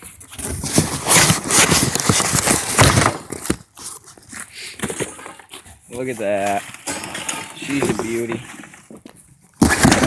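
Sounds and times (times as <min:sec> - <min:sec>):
packaging rustling and clattering: 0:00.0 - 0:10.0.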